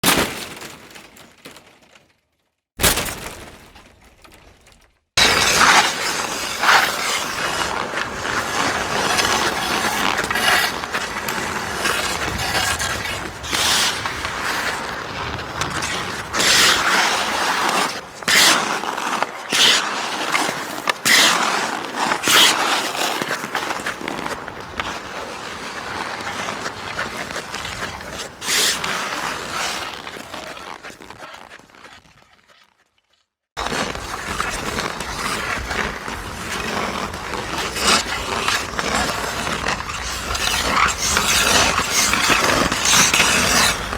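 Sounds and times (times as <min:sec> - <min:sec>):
hockey sticks and puck cracking: 0:02.8 - 0:31.5, 0:33.6 - 0:43.9.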